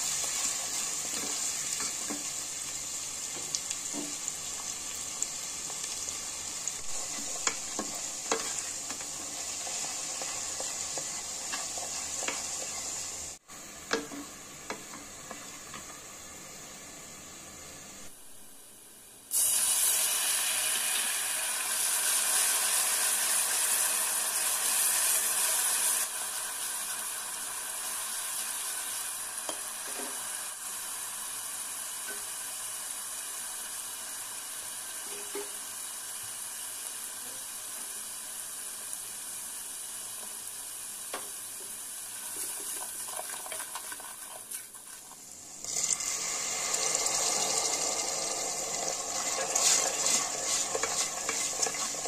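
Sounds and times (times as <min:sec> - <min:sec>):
onions sizzling in hot oil: 0:00.0 - 0:52.0.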